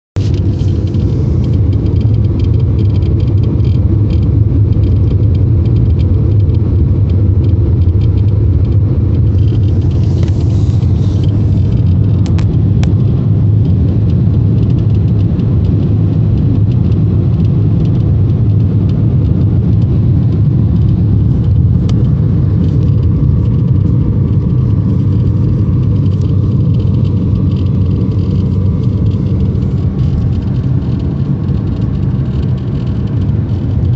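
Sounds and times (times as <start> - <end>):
car cabin engine rumble: 0.2 - 33.9
fast irregular faint clicks: 0.3 - 33.9.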